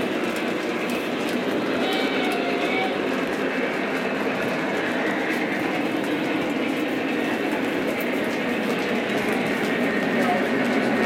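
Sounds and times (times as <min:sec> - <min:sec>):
clicking over rail joints: 0:00.0 - 0:11.0
model train wheels rolling: 0:00.0 - 0:11.0.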